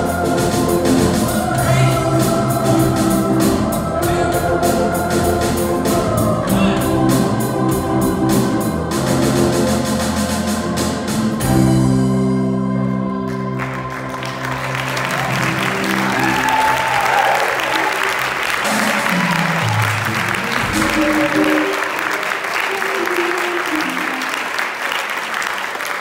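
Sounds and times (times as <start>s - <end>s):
trombone: 0.0s - 16.9s, 17.5s - 22.1s
church choir singing: 0.0s - 22.5s
organ sound keyboard: 0.0s - 24.3s.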